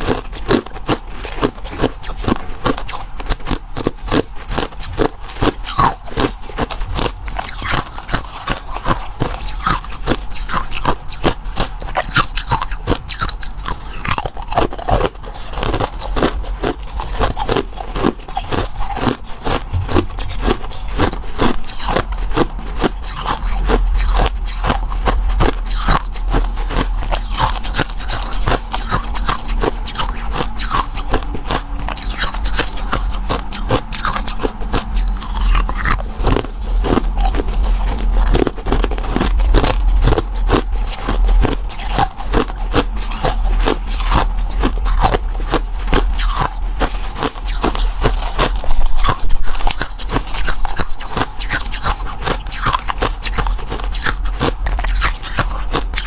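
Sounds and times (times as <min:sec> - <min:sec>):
biting and crunching food: 0:00.0 - 0:56.0.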